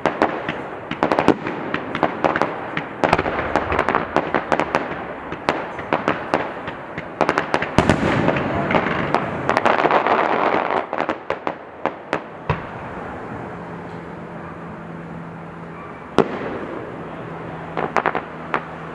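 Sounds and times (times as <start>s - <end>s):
firework cracks and bangs: 0.0s - 13.4s, 16.1s - 18.9s
firework crackle: 0.0s - 18.9s.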